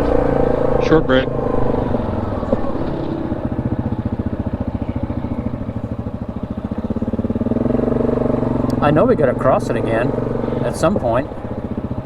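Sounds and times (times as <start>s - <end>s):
atv engine pulsing throb: 0.0s - 12.0s.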